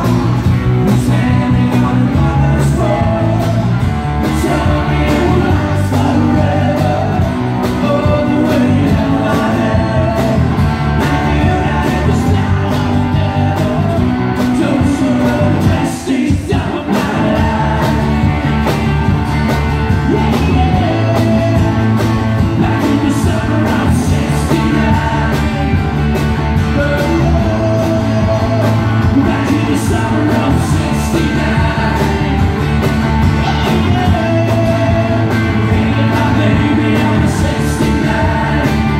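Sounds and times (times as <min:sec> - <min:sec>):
person singing: 0:00.0 - 0:18.8, 0:19.9 - 0:26.0, 0:26.6 - 0:38.9
live country band playing: 0:00.0 - 0:38.9.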